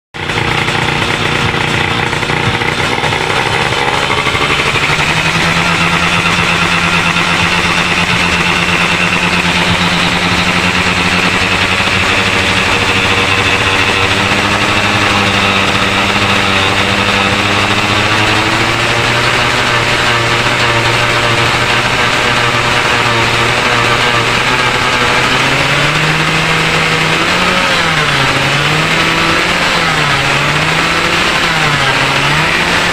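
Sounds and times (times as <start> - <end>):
motorcycle engine fast idle: 0.2 - 32.9.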